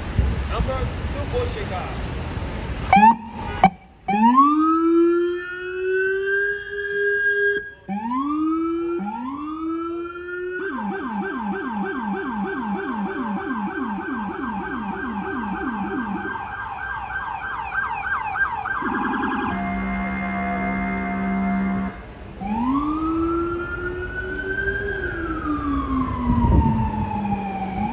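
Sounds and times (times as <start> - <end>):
emergency siren wailing and yelping: 2.9 - 27.9.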